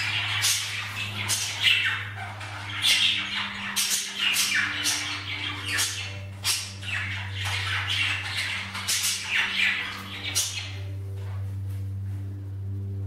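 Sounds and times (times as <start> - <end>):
budgerigars chirping: 0.0 - 10.9
low hum: 0.0 - 13.0.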